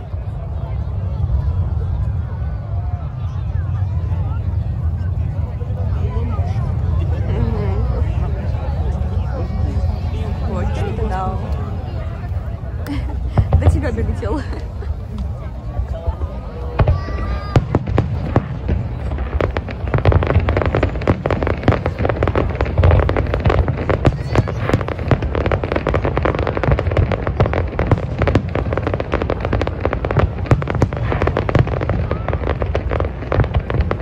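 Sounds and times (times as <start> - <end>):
fireworks bangs and crackles: 0.0 - 34.0
low rumble of distant bursts: 0.0 - 34.0.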